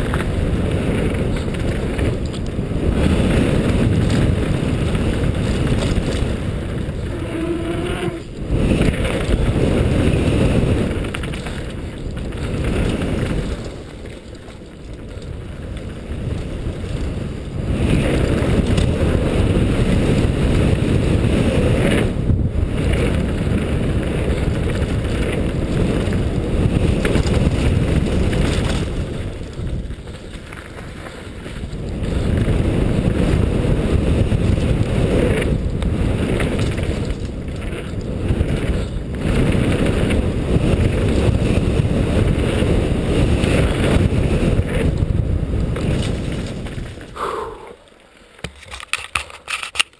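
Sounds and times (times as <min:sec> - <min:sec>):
wind rushing over microphone: 0:00.0 - 0:49.6
bike tyres rumbling on dirt trail: 0:00.0 - 0:49.9.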